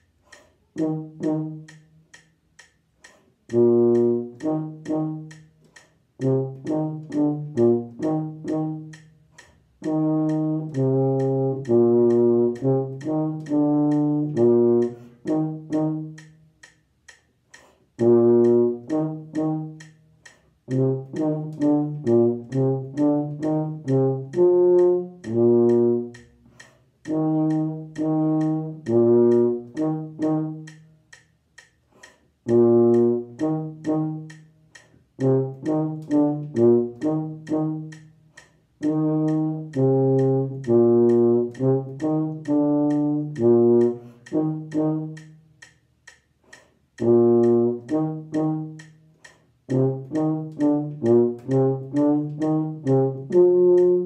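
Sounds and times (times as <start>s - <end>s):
faint steady ticking: 0.0s - 54.0s.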